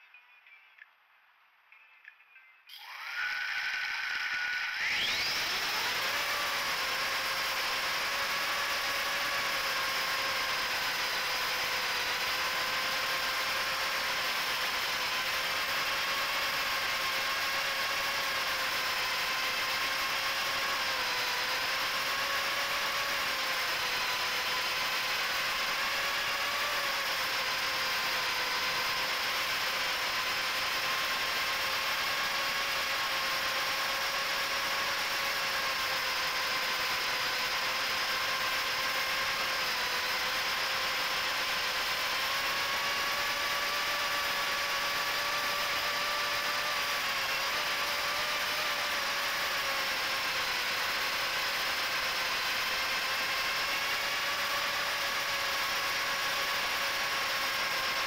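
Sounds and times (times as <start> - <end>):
drone motors whining: 2.7 - 58.0.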